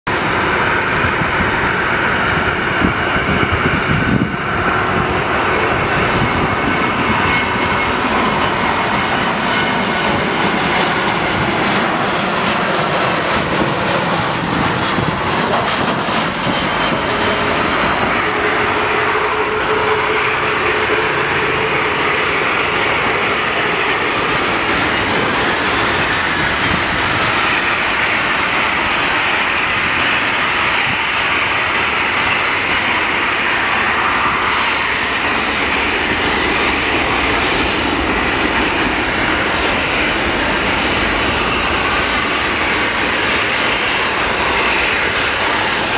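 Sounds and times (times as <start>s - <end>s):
jet engines rushing and whining: 0.1s - 45.9s.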